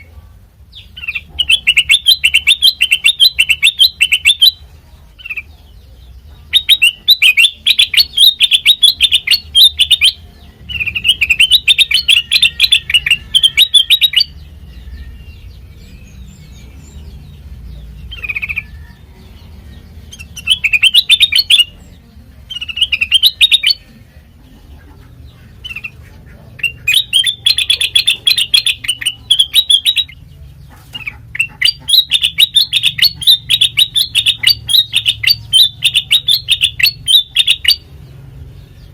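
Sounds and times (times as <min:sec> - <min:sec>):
songbird chattering song: 0:00.0 - 0:38.9.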